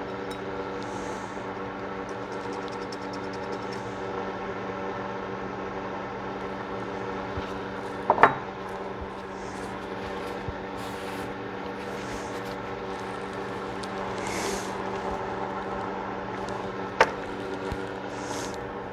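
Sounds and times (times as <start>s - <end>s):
steady background hum: 0.0s - 18.9s.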